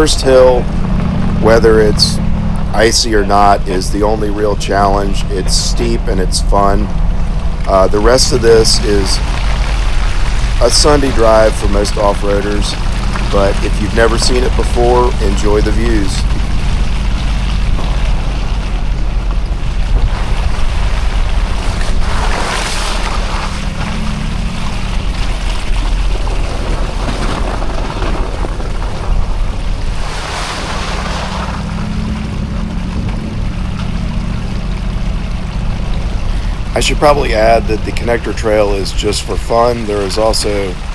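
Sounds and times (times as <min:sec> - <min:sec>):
rushing noise: 0:00.0 - 0:40.9
vehicle driving slowly on a trail: 0:00.0 - 0:40.9.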